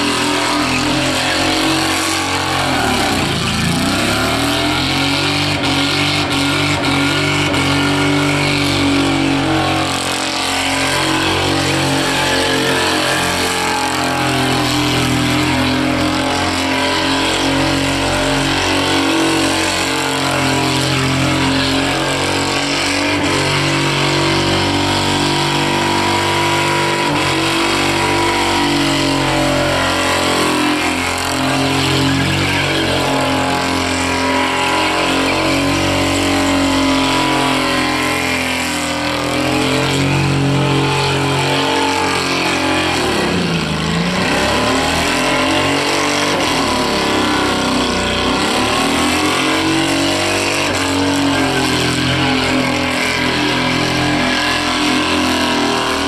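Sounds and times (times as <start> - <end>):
car engine at high revs: 0.0 - 56.0
tyres screeching: 0.0 - 56.0.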